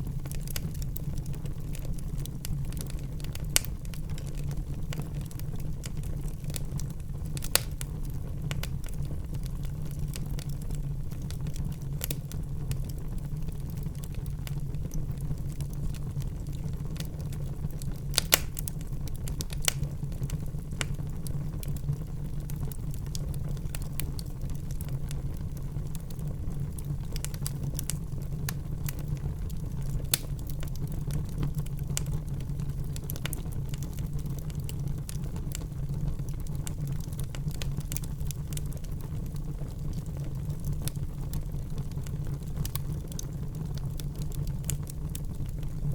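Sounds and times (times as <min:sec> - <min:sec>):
fire crackling and popping: 0:00.0 - 0:45.9
fire low rumble: 0:00.0 - 0:45.9.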